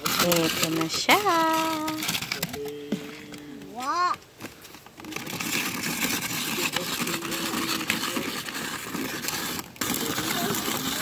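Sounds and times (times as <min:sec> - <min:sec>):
hand-cranked ice shaver grinding ice: 0:00.0 - 0:11.0.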